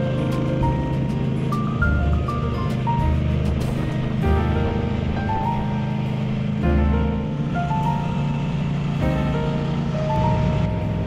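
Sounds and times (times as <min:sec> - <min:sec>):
background music: 0:00.0 - 0:11.0
motorcycle engines running: 0:00.0 - 0:11.0
road noise: 0:00.0 - 0:11.0.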